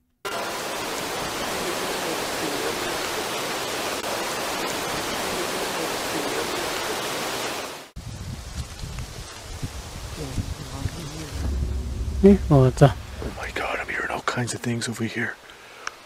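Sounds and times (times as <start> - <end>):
loud steady hiss: 0.3 - 16.0.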